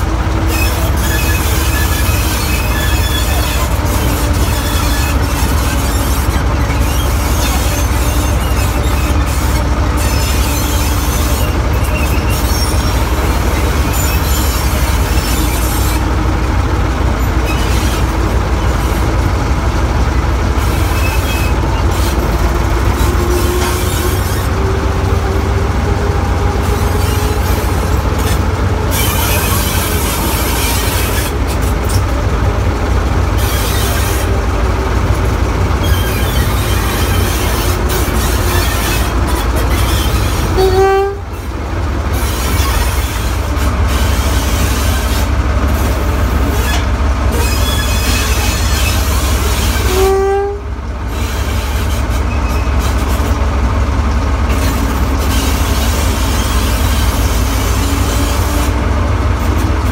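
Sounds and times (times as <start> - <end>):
diesel locomotive engine rumble: 0.0 - 59.9.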